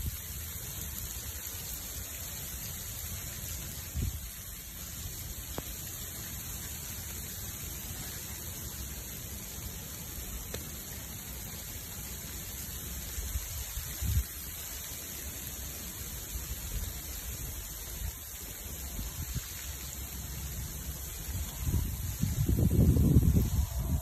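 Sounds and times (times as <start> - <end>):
fire crackle: 0.0 - 24.0
freezing rain hissing: 0.0 - 24.0.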